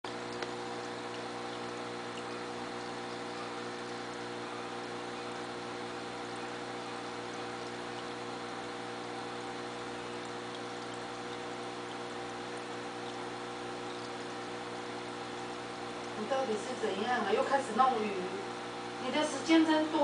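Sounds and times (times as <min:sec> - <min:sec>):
aquarium pump humming: 0:00.1 - 0:20.0.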